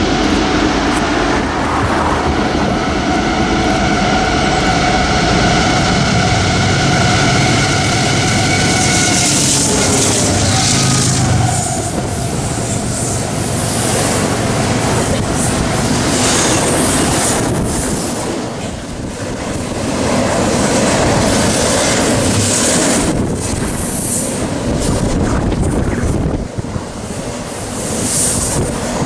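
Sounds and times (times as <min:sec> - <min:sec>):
diesel locomotive engines: 0:00.0 - 0:29.0
train wheels rumbling on rails: 0:00.0 - 0:29.0.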